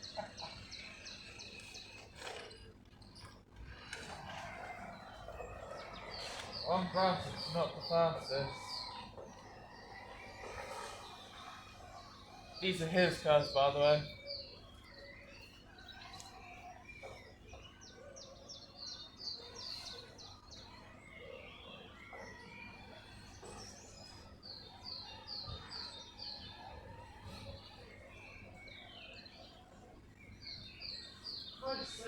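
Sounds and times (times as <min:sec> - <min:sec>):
birds chirping and singing: 0:00.0 - 0:32.0
outdoor background noise: 0:00.0 - 0:32.0.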